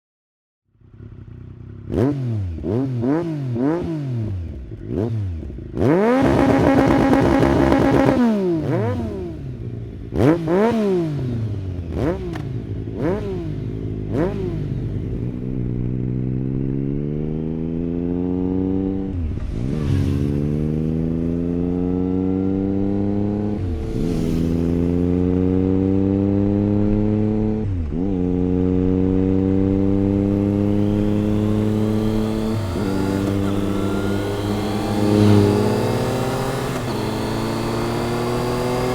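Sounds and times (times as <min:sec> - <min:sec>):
motorcycle accelerating through gears: 0:00.7 - 0:38.9
motorcycle engine revving: 0:00.7 - 0:38.9.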